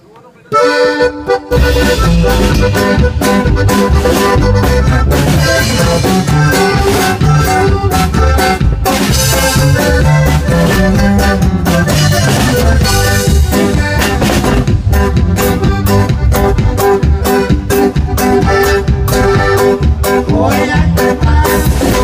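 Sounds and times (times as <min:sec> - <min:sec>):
button accordion melody: 0:00.5 - 0:22.0
drum kit beat: 0:00.6 - 0:22.0
electric bass: 0:01.0 - 0:22.0.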